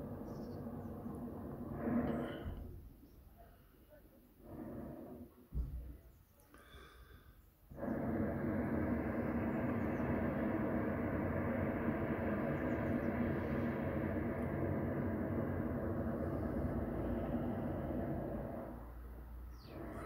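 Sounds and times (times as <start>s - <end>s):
steady rumbling: 0.0s - 20.0s.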